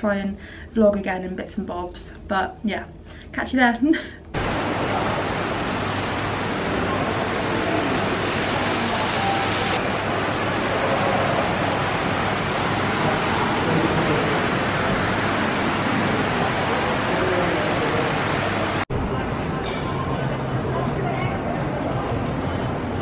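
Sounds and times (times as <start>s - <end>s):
steady rush of noise: 4.2s - 23.0s.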